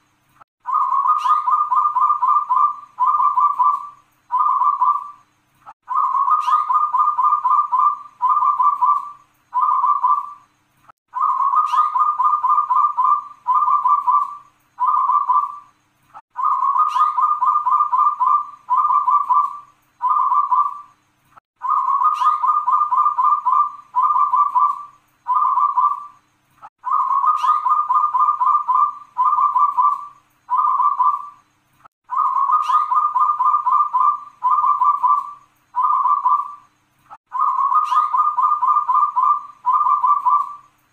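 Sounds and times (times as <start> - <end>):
dove rolling cooing song: 0.6 - 5.2, 5.8 - 10.5, 11.1 - 15.7, 16.3 - 21.0, 21.6 - 26.2, 26.8 - 31.4, 32.1 - 36.7, 37.3 - 40.7.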